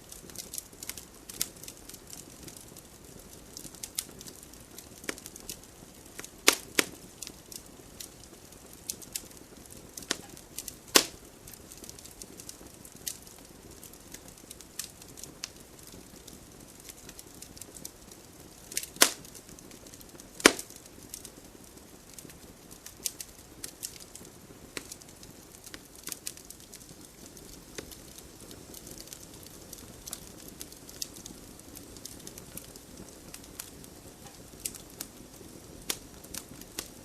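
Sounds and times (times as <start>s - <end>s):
campfire snaps and pops: 0.0s - 37.0s
faint hiss of fire: 0.0s - 37.0s.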